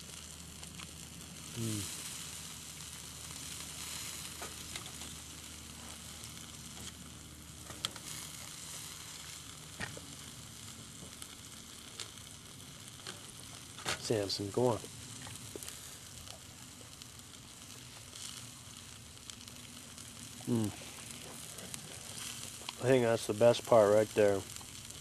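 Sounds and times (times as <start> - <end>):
steak sizzling on a grill: 0.0 - 25.0.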